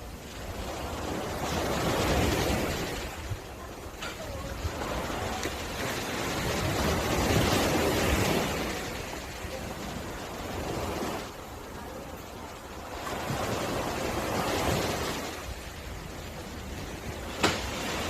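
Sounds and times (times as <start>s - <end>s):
sea waves washing on a beach: 0.0s - 18.0s.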